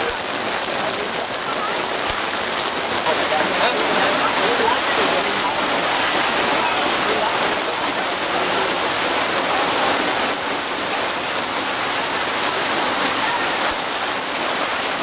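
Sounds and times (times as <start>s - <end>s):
faint voices: 0.0s - 15.0s.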